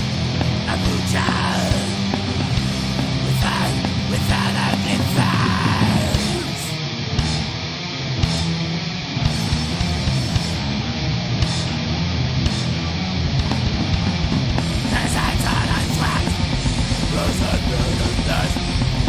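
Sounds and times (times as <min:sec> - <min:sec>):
heavy metal band playing: 0:00.0 - 0:19.0.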